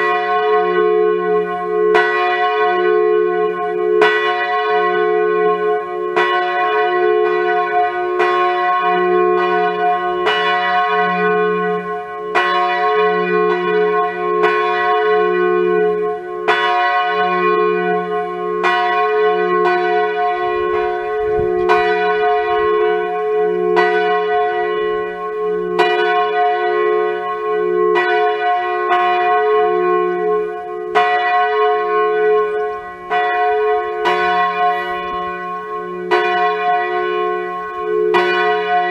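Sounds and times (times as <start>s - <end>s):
church bell ringing: 0.0s - 38.9s.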